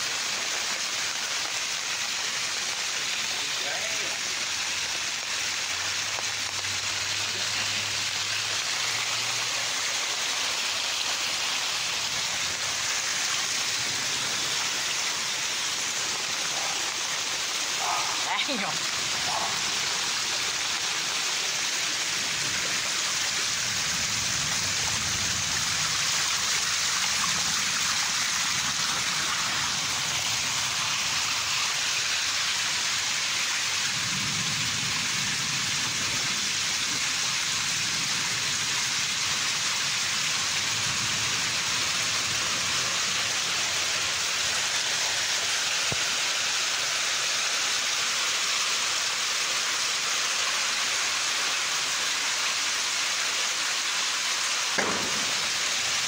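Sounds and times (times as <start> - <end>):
heavy rain pouring: 0.0 - 56.0
water splashing down brick steps: 0.0 - 56.0.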